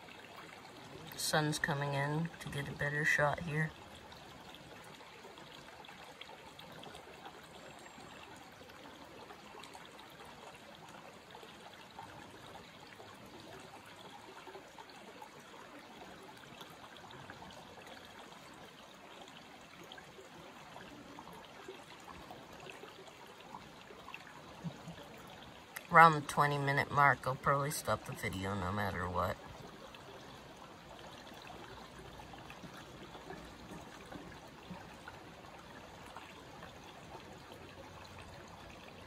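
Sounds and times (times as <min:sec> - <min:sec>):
stream trickling over rocks: 0:00.0 - 0:39.0.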